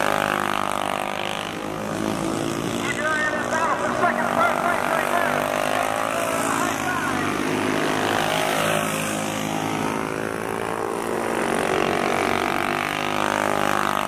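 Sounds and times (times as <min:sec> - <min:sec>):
racing lawnmower engines: 0:00.0 - 0:14.0.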